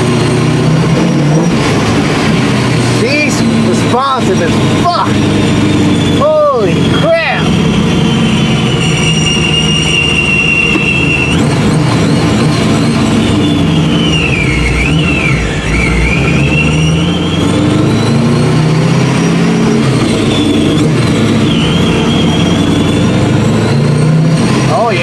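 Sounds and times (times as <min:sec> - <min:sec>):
car engine accelerating: 0:00.0 - 0:25.0
high supercharger whine: 0:00.0 - 0:25.0.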